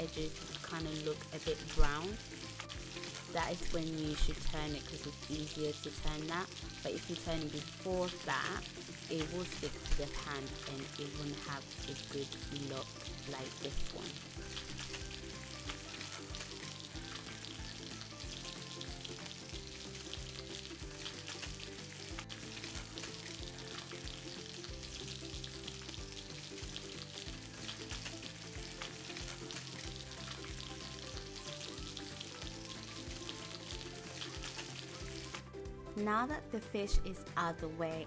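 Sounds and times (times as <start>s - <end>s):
fish sizzling in hot oil: 0.0s - 35.6s
soft background music: 0.0s - 38.0s.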